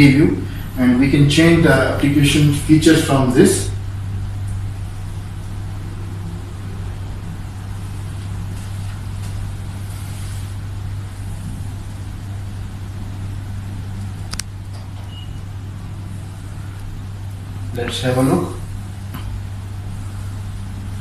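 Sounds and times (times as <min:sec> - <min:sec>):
low electrical hum: 0:00.0 - 0:21.0
room background hiss: 0:00.0 - 0:21.0.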